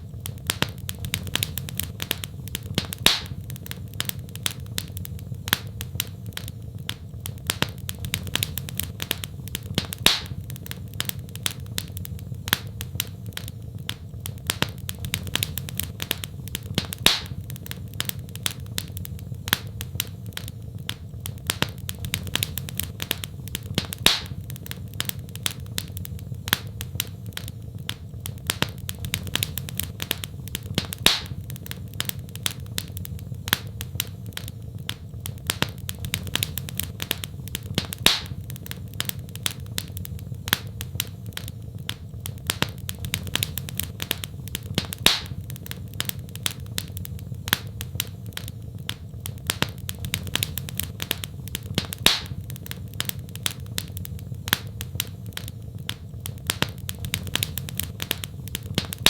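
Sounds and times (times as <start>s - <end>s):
loud fire pop: 0.0s - 59.0s
low fire rumble: 0.0s - 59.0s
wood fire crackling: 0.0s - 59.0s.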